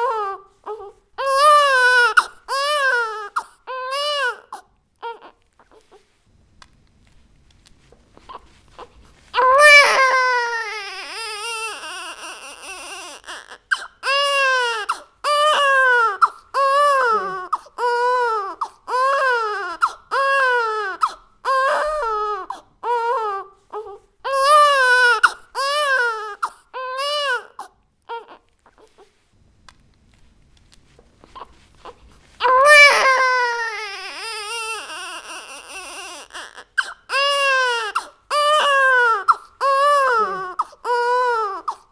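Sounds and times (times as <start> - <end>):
baby crying: 0.0 - 6.0, 8.3 - 29.0, 31.4 - 41.9.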